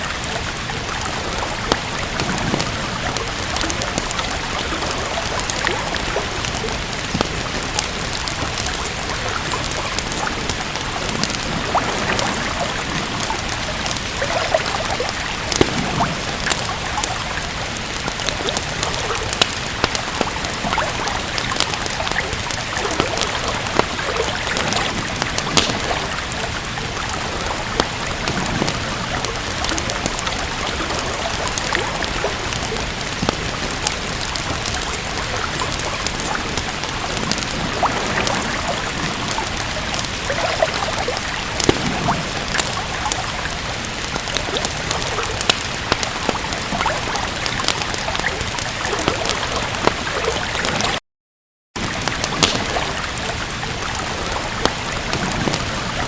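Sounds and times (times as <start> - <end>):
steady rain: 0.0 - 51.0, 51.8 - 56.0
wood fire crackling: 0.0 - 51.0, 51.8 - 56.0.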